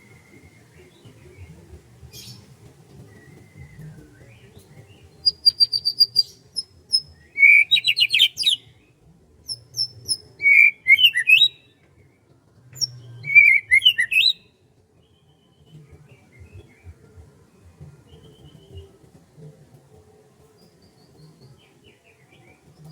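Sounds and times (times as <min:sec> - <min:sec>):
songbirds chirping and singing: 0:00.0 - 0:22.9.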